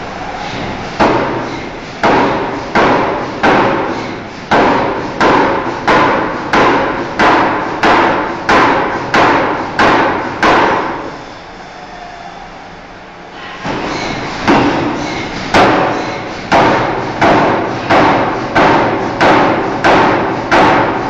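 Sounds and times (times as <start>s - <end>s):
forging hammer striking steel: 0.6s - 11.1s, 13.7s - 21.0s.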